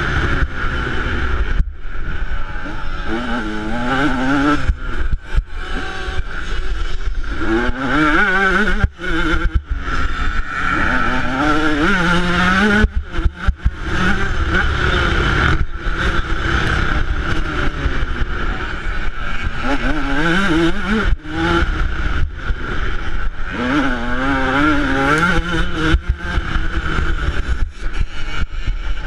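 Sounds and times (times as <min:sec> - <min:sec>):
two-stroke motorcycle engine revving: 0:00.0 - 0:29.0.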